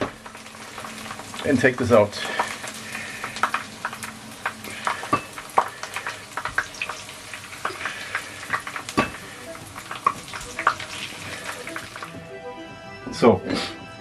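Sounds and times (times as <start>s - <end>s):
hot oil crackling and sizzling: 0.0s - 12.2s
sharp pops and clicks: 0.0s - 12.2s.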